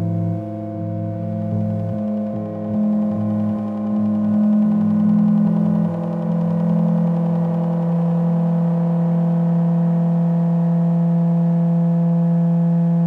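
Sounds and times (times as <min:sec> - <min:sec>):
synthesizer drone: 0:00.0 - 0:13.0.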